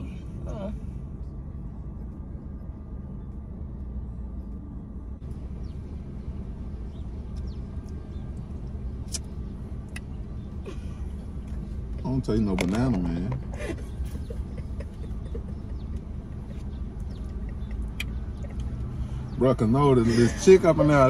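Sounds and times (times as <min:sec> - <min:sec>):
car cabin engine and road rumble: 0:00.0 - 0:21.0.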